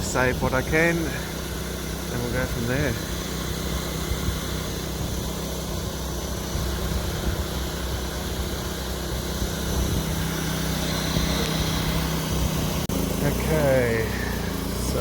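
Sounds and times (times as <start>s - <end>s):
vacuum motor humming: 0.0s - 15.0s.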